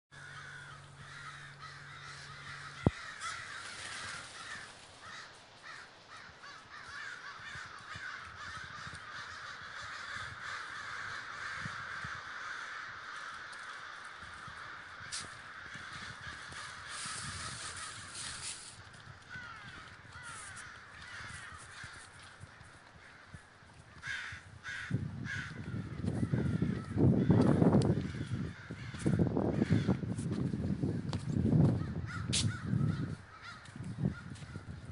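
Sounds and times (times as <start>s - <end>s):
flock of crows cawing: 0.1s - 34.9s.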